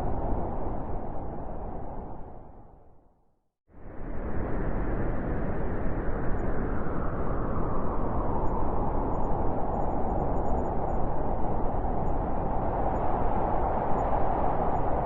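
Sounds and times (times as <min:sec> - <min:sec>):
howling blizzard wind: 0:00.0 - 0:03.0, 0:03.7 - 0:15.0.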